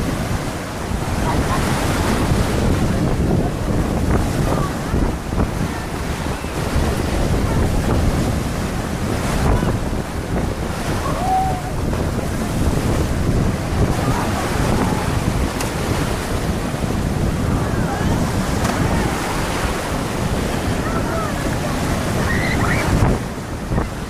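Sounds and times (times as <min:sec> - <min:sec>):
sea waves washing ashore: 0:00.0 - 0:24.0
wind buffeting microphone: 0:00.0 - 0:24.0.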